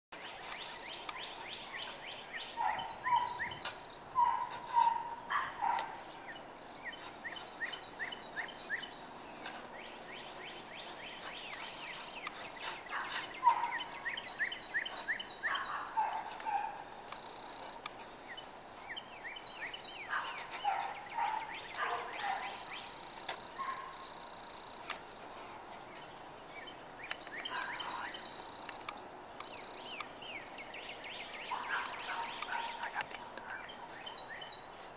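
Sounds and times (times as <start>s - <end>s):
faint outdoor background noise: 0.1s - 34.9s
songbirds chirping: 0.1s - 34.9s.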